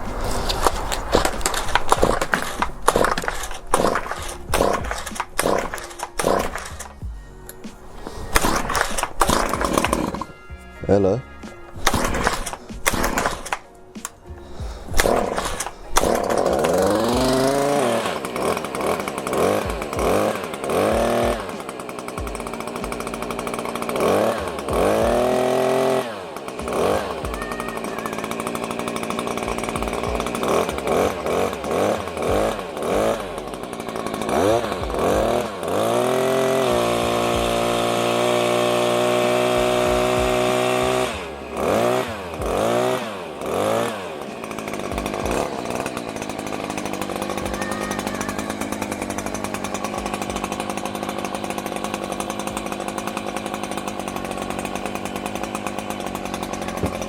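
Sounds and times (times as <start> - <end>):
hedge trimmer engine revving: 0.0 - 57.0.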